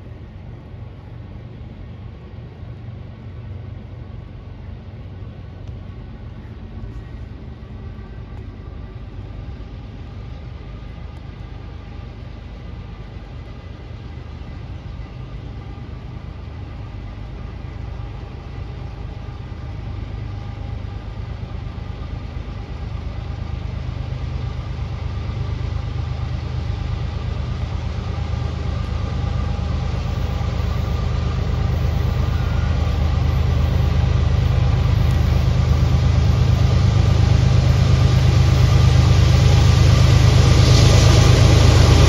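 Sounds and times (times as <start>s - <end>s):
diesel locomotive engine rumble: 0.0s - 42.0s
faint steady whine: 0.0s - 42.0s.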